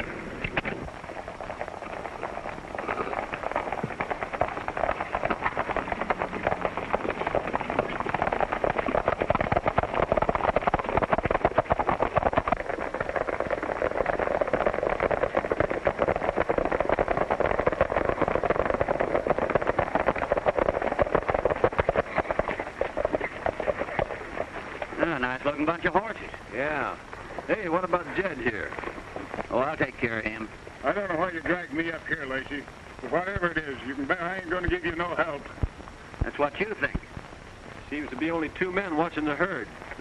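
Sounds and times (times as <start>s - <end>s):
horses galloping hoofbeats: 0.0s - 40.0s.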